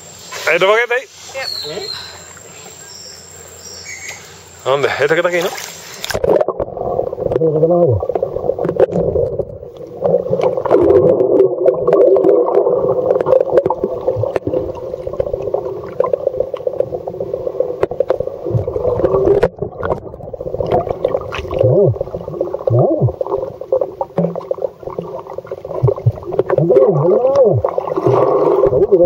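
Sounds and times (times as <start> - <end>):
water sloshing and gurgling: 4.1 - 29.0.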